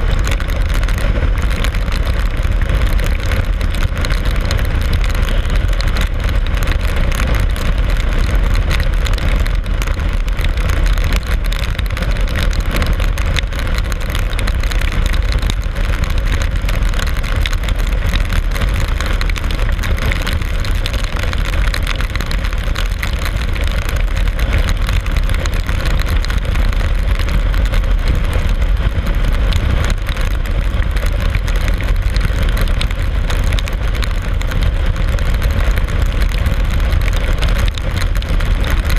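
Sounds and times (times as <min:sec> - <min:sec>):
vehicle engine drone: 0:00.0 - 0:38.9.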